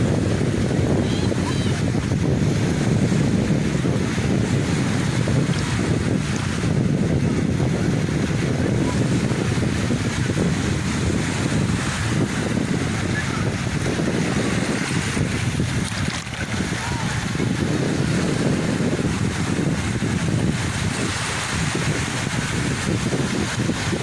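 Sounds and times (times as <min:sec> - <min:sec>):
sea waves washing: 0:00.0 - 0:24.0
wind buffeting microphone: 0:00.0 - 0:24.0.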